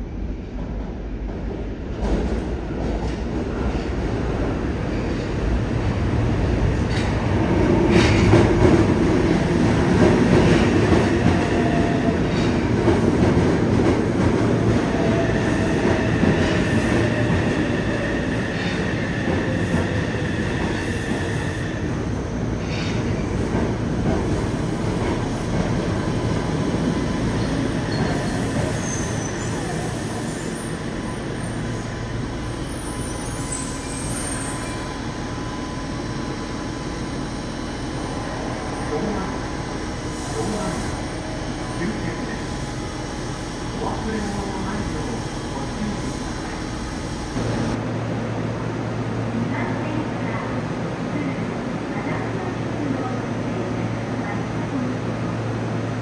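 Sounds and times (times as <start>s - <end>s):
train wheels rumbling on rails: 0.0s - 47.8s.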